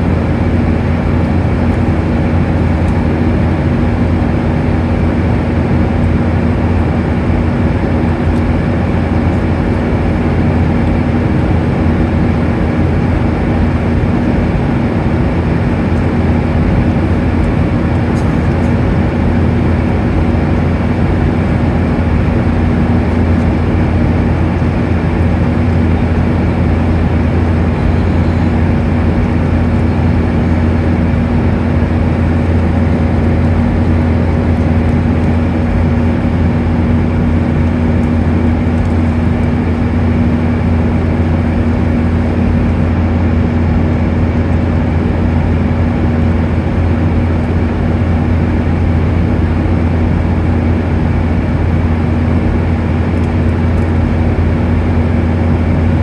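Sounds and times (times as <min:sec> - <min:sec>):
jet engines droning: 0:00.0 - 0:56.0
low hum: 0:00.0 - 0:56.0
rush of air in cabin: 0:00.0 - 0:56.0.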